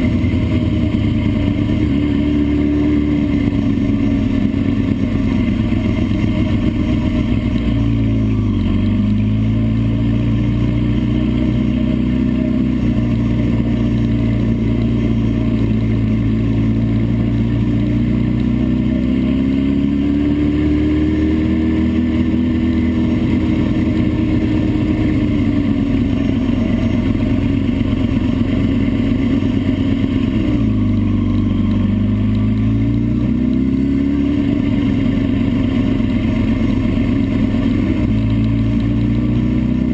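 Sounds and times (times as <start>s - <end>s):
vehicle engine revving: 0.0s - 39.9s
wind and road noise: 0.0s - 39.9s.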